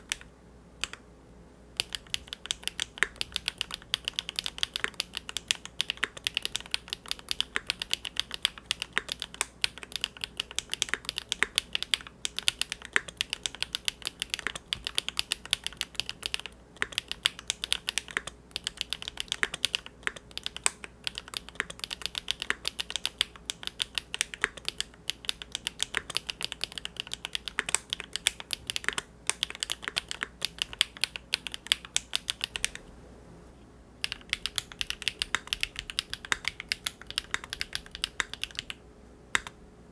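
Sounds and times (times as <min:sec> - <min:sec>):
fast typing on mechanical keyboard: 0:01.8 - 0:32.8, 0:34.0 - 0:38.8.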